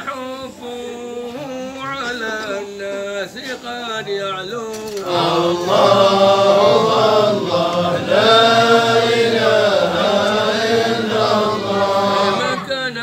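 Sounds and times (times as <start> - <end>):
men chanting unaccompanied: 2.1 - 13.0.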